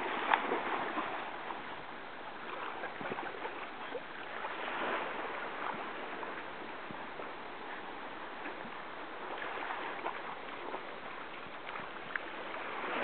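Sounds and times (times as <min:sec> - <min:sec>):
sea water sloshing and splashing: 0:00.0 - 0:13.0.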